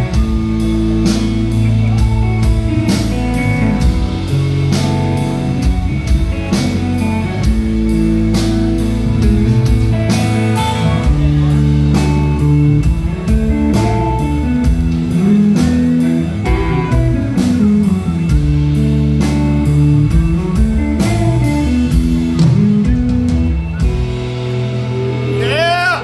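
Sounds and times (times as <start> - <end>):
drum kit beat: 0.0 - 26.0
electric guitar melody: 0.0 - 26.0.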